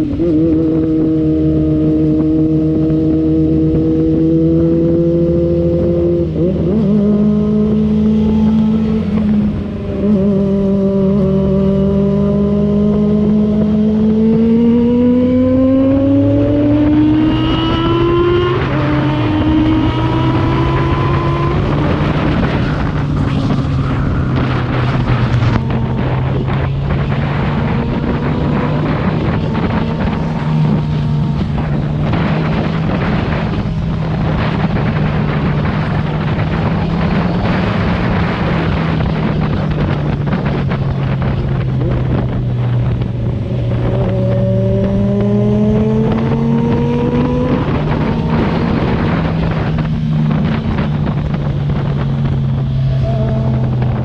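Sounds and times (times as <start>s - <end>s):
motorcycle engine accelerating: 0.0s - 54.0s
wind rush: 0.0s - 54.0s.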